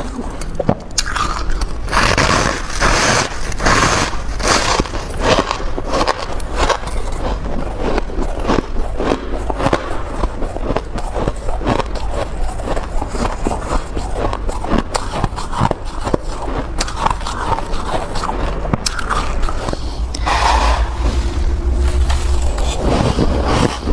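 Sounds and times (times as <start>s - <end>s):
crunching ice being bitten: 0.0s - 20.0s.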